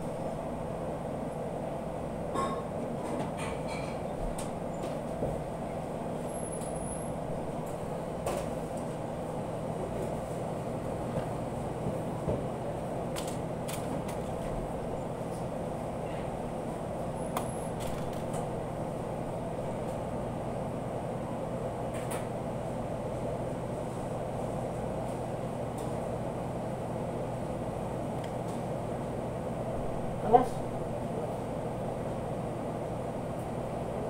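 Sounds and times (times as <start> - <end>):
kitchen machinery hum: 0.0 - 34.0.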